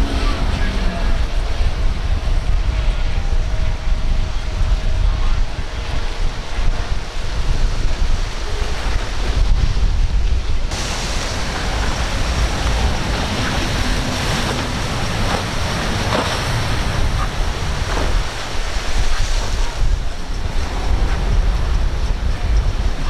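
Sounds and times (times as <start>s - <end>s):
ocean waves breaking: 0.0s - 3.6s, 5.4s - 23.0s
wind rumbling on microphone: 0.0s - 23.0s.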